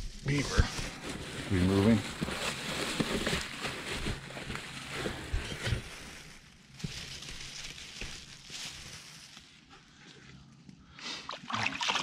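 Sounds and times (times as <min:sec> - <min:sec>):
footsteps through grass and mud: 0:00.0 - 0:09.7.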